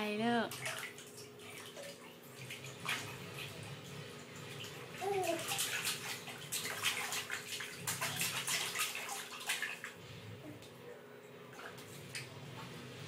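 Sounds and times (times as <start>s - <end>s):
baby splashing bath water: 0.3s - 13.0s.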